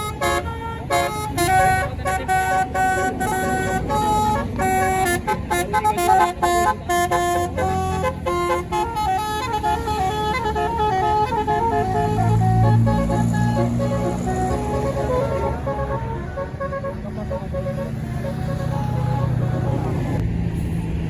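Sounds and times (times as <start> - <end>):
musical air horn playing a tune: 0.0 - 20.1.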